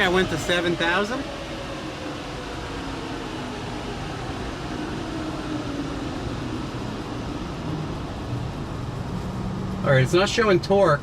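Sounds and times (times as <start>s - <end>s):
engine and dyno humming: 0.0s - 11.0s.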